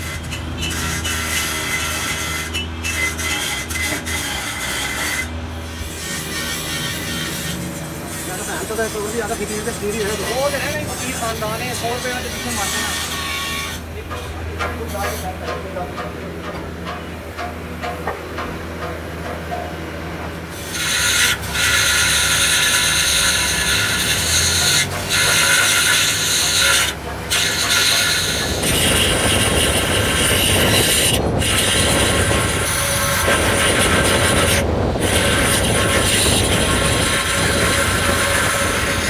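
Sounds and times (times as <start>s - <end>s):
grinder screeching on cast iron: 0.0s - 17.2s, 20.4s - 39.0s
heavier grinding rasp: 0.0s - 39.0s.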